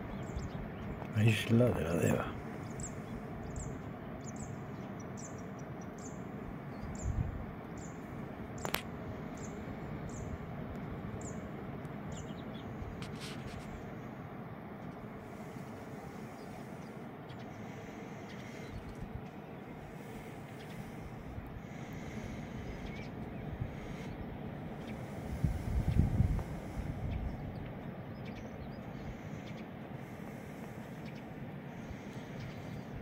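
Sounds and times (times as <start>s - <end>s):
steady outdoor rush: 0.0s - 33.0s.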